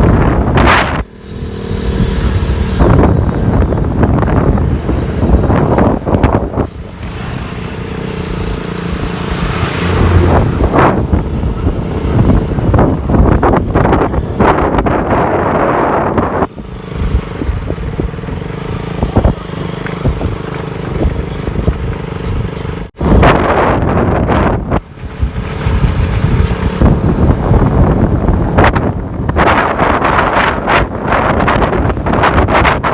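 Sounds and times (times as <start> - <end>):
motorcycle engine running: 0.0 - 32.9
wind buffeting microphone: 0.0 - 32.9.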